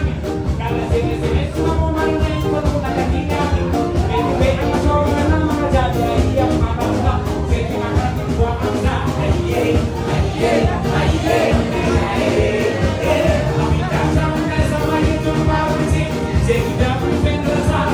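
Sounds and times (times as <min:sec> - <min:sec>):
live band dance music with singer: 0:00.0 - 0:17.9.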